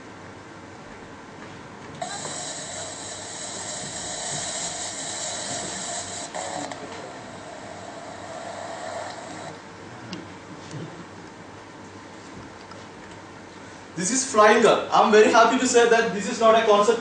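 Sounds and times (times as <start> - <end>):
steady hiss over loudspeakers: 0.0 - 17.0.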